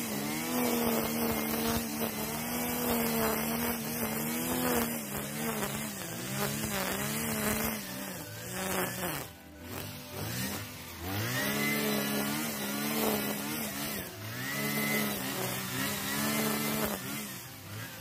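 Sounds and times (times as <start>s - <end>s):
brush cutter cutting grass: 0.0s - 18.0s.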